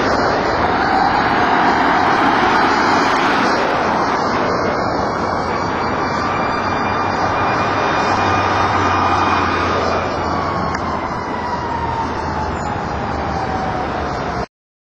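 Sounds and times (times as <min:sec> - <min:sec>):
car passing close by: 0:00.0 - 0:12.0
faint siren falling tone: 0:00.0 - 0:14.5
road traffic: 0:00.0 - 0:14.5.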